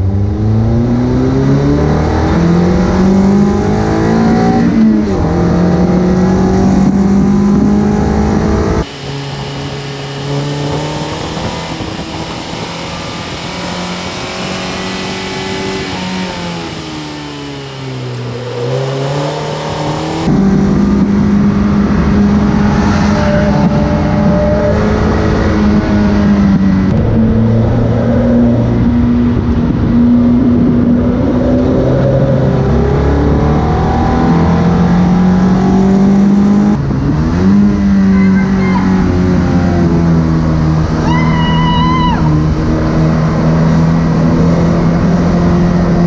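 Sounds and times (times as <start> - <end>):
car engine running hard: 0.0 - 46.0.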